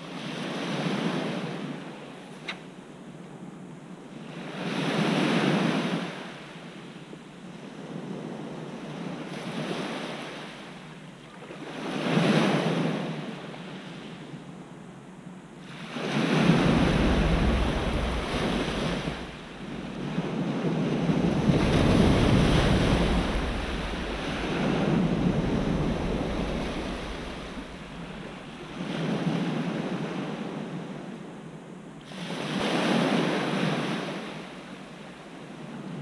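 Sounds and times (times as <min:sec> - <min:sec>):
small waves on a pebble shore: 0:00.0 - 0:02.0, 0:04.1 - 0:06.8, 0:07.4 - 0:14.4, 0:15.6 - 0:31.1, 0:32.0 - 0:36.0.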